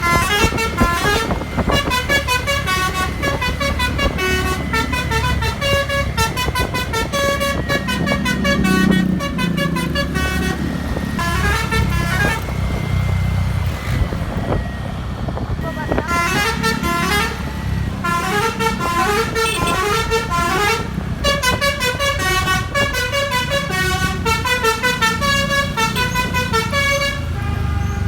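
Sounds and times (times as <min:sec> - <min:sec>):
multi-tone bus air horn tune: 0:00.0 - 0:12.8, 0:15.7 - 0:28.0
bus engine running: 0:00.0 - 0:28.0.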